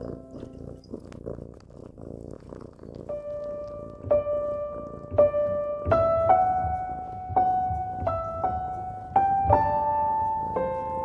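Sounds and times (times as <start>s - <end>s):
slow soft piano music: 0.0s - 0.9s, 2.8s - 11.0s.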